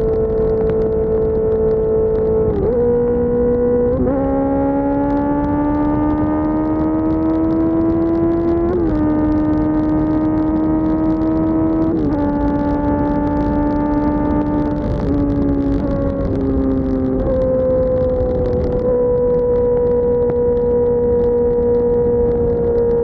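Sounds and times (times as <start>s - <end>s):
motorcycle engine revving: 0.0s - 23.0s
wind and road noise: 0.0s - 23.0s.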